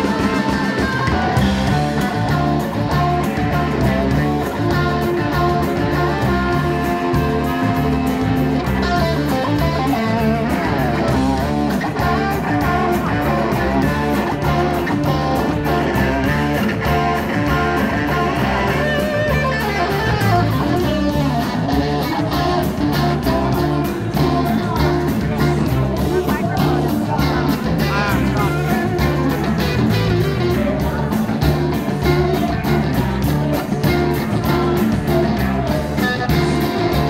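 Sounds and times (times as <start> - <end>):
bass guitar: 0.0 - 37.0
drums: 0.0 - 37.0
electric guitars: 0.0 - 37.0.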